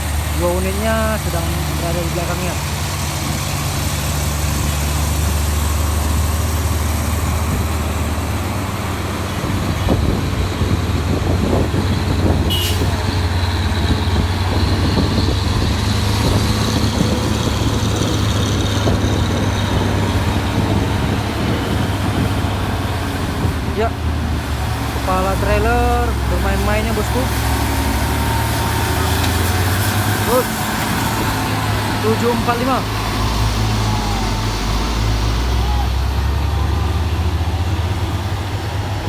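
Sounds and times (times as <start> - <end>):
truck engine labouring uphill: 0.0 - 39.0.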